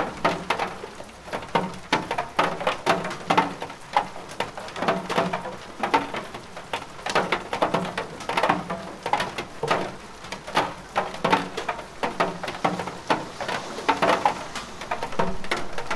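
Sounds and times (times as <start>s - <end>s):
rain patter: 0.0s - 15.9s.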